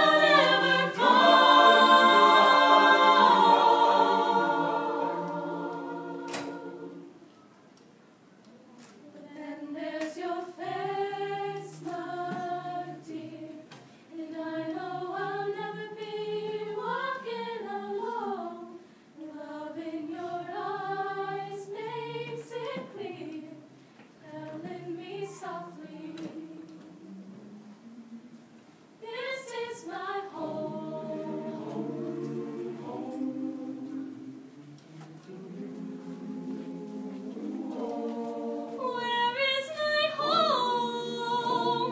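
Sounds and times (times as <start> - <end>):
mixed choir singing unaccompanied: 0.0 - 7.4, 9.2 - 28.0, 29.0 - 41.9.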